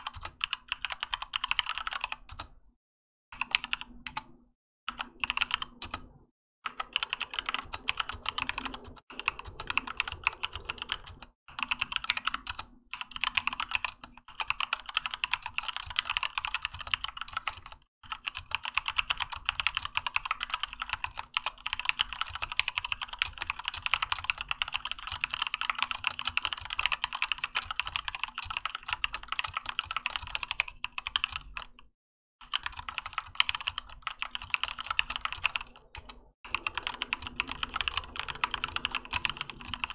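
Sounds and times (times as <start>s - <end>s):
mechanical keyboard typing: 0.0s - 2.6s, 3.4s - 39.9s.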